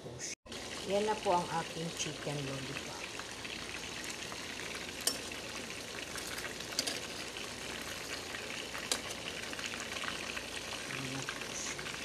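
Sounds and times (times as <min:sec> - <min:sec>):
food deep-frying in hot oil: 0:00.5 - 0:12.0.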